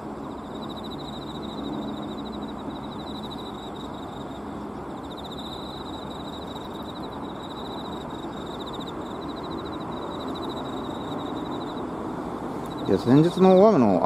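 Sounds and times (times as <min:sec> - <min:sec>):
insects chirping: 0:00.0 - 0:14.0
low background rush: 0:00.0 - 0:14.0.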